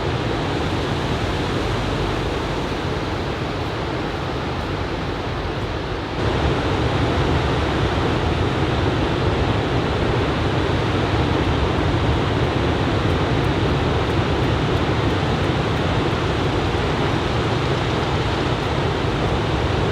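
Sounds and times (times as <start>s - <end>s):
ocean surf breaking on beach: 0.0s - 19.9s.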